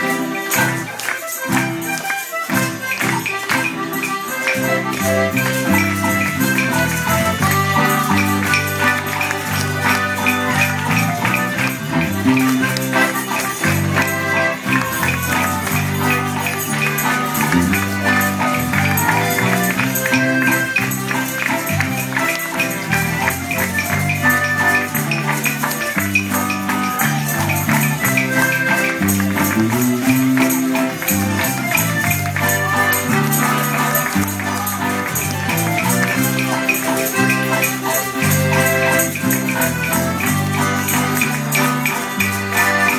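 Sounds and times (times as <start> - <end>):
guitars and accordion playing: 0.0 - 42.9
tambourines jingling: 0.0 - 42.9.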